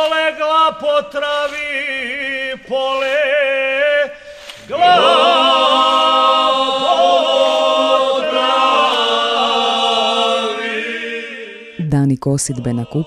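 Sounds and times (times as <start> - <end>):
male vocal group singing a cappella: 0.0 - 11.8, 12.4 - 13.0.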